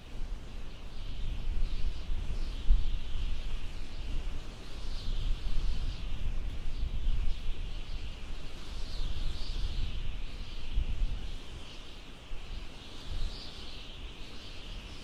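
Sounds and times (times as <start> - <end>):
many birds chirping: 0.0 - 15.0.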